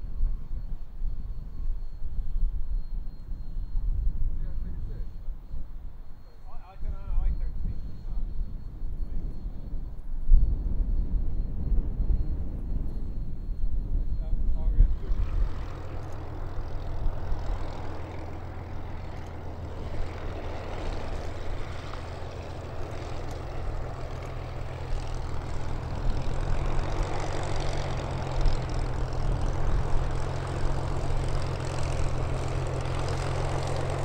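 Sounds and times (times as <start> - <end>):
propeller aircraft engine drone: 0.0 - 34.0.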